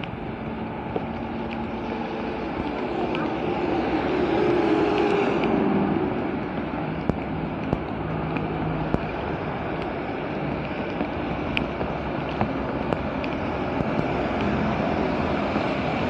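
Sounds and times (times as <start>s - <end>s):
rain and runoff water rushing: 0.0s - 16.0s.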